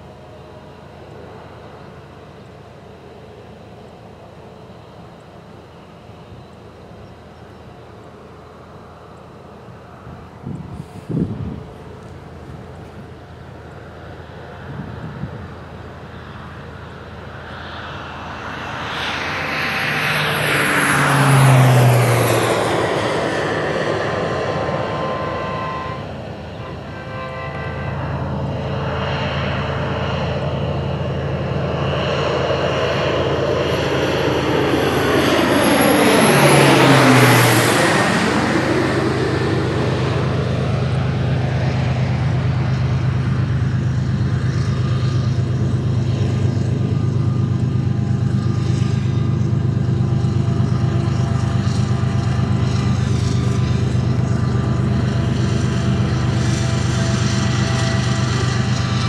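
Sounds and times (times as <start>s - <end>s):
propeller plane passing low: 0.0s - 59.0s.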